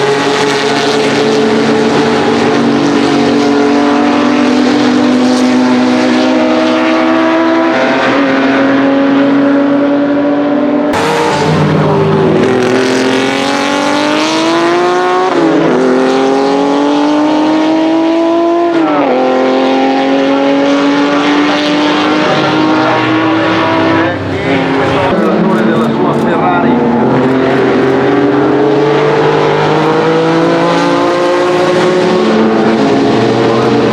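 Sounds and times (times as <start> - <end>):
racing engine at full throttle: 0.0 - 33.9.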